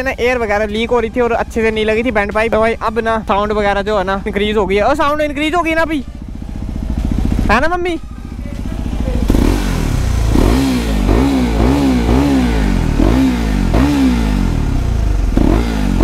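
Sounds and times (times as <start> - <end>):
motorcycle engine revving over idle: 0.0 - 16.0.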